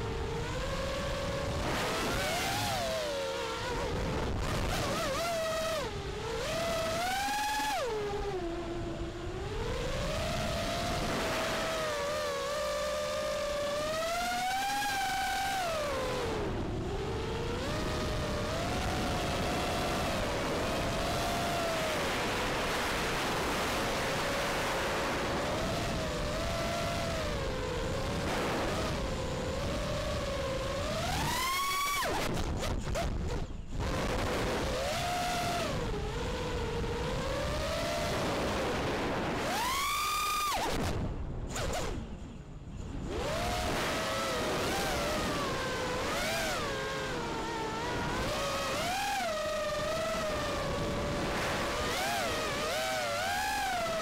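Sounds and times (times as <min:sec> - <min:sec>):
drone motors whining: 0:00.0 - 0:54.0.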